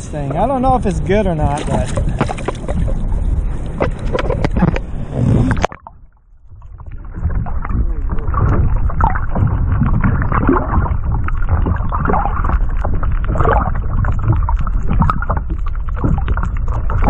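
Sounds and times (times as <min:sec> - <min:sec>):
muffled underwater rumble of waves: 0:00.0 - 0:17.0
sea water sloshing: 0:00.0 - 0:17.0
underwater crackles: 0:00.0 - 0:17.0.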